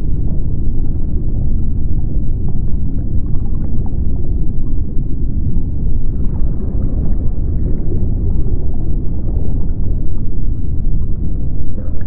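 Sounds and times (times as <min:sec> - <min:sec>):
low underwater rumble: 0:00.0 - 0:12.0.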